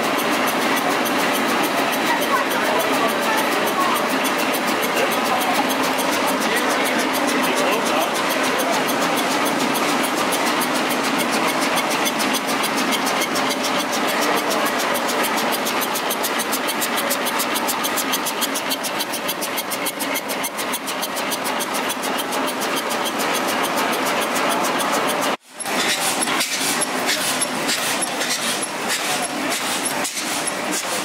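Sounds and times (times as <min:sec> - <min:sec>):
stationary engine clattering: 0:00.0 - 0:31.0.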